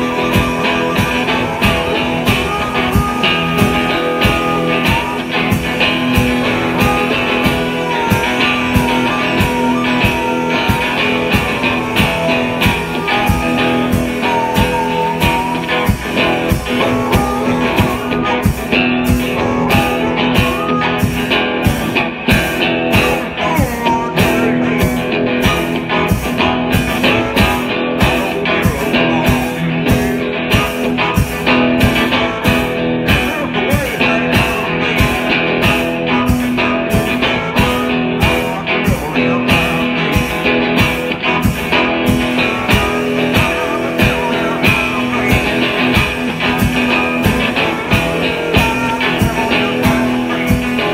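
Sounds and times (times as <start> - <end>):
drum and cymbal hits: 0.0 - 50.9
harmonica wailing: 0.0 - 50.9.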